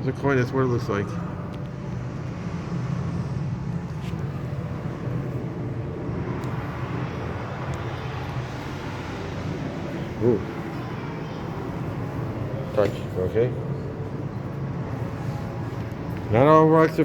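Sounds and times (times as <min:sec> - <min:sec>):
low rumbling background hum: 0:00.0 - 0:17.0.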